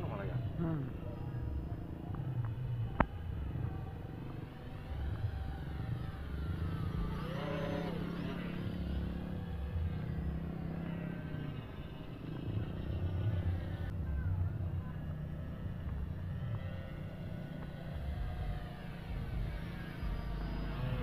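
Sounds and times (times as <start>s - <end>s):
model aeroplane motor whining: 0.0s - 14.0s, 14.8s - 21.0s.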